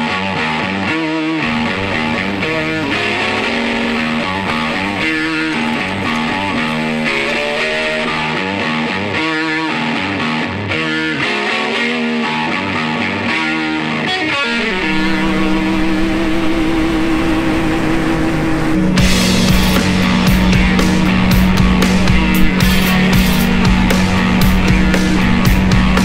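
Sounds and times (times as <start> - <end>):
picked guitar music: 0.0 - 26.0.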